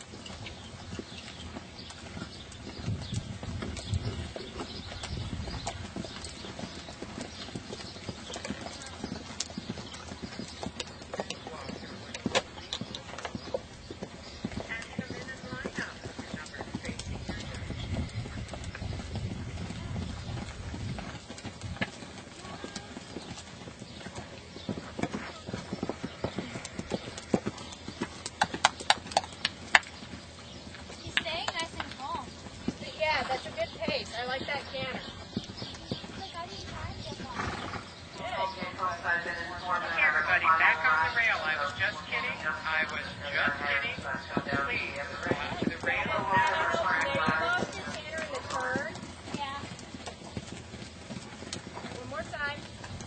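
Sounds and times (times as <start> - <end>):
horse hoofbeats on dirt: 0.0 - 53.0.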